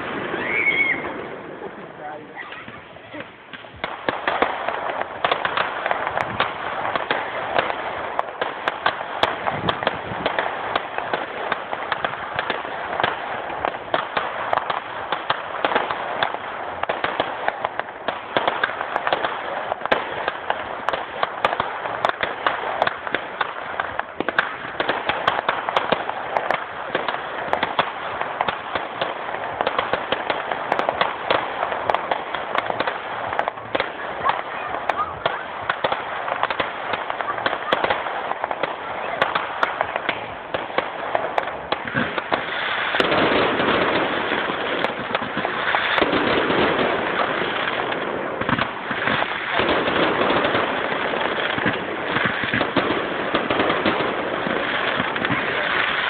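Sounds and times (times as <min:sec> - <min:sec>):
fireworks crackling pops: 0:00.0 - 0:56.0.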